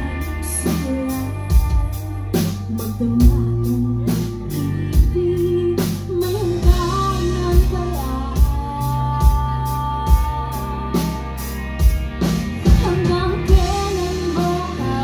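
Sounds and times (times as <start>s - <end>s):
person singing: 0.0s - 11.6s, 12.6s - 15.0s
bass and guitar: 0.0s - 15.0s.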